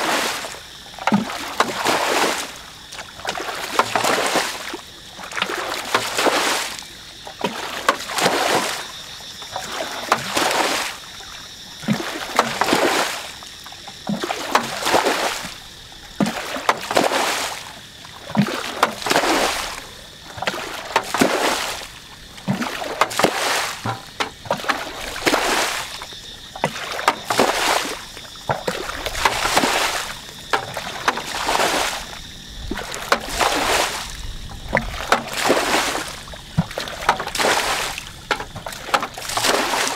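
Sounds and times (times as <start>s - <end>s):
bucket scooping and pouring water: 0.0s - 6.8s, 7.4s - 8.9s, 9.5s - 11.0s, 11.8s - 13.4s, 14.0s - 15.6s, 16.2s - 39.9s.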